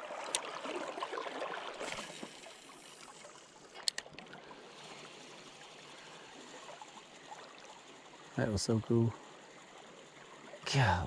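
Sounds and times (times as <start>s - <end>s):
water sloshing and gurgling: 0.0s - 11.0s.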